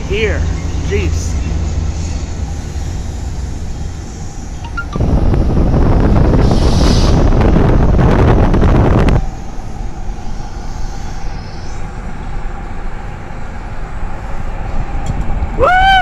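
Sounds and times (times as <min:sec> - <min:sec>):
freight train rumbling on rails: 0:00.0 - 0:16.0
wind buffeting microphone: 0:01.6 - 0:15.6.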